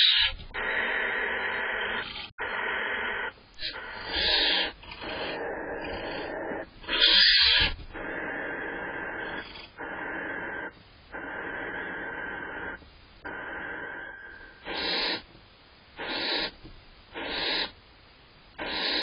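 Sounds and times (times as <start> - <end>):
barn owl rasping hisses: 0.0 - 15.3, 16.0 - 17.8, 18.6 - 19.0.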